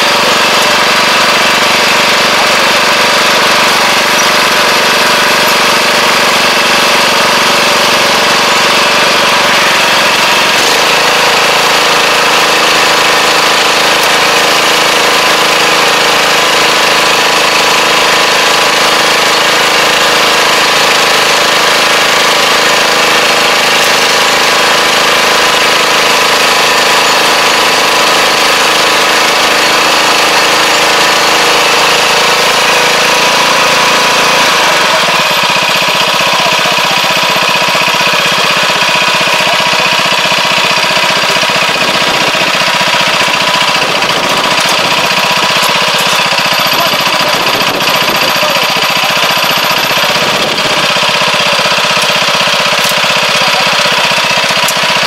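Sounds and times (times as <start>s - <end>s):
machine engine running: 0.0s - 55.0s.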